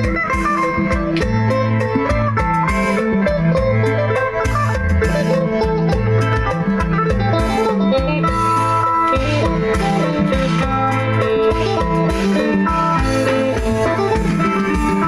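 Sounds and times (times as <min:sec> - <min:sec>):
low bass line: 0:00.0 - 0:15.0
plucked lute melody: 0:00.0 - 0:15.0
steady beat: 0:00.0 - 0:15.0.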